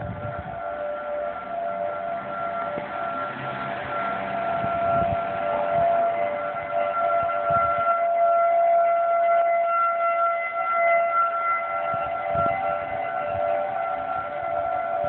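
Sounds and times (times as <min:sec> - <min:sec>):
tornado warning siren: 0:00.0 - 0:15.0.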